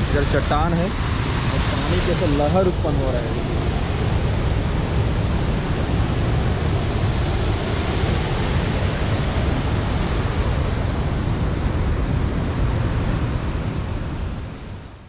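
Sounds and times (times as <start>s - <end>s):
waterfall and rushing river: 0.0s - 15.0s.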